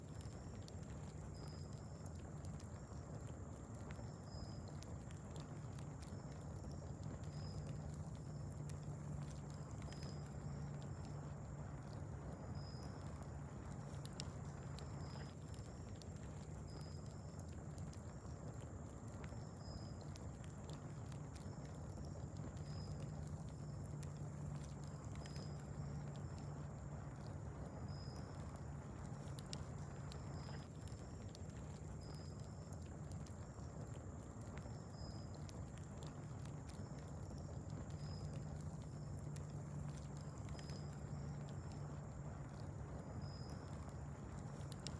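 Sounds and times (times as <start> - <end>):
steady low hum: 0.0 - 44.9
wood fire crackling: 0.0 - 44.9.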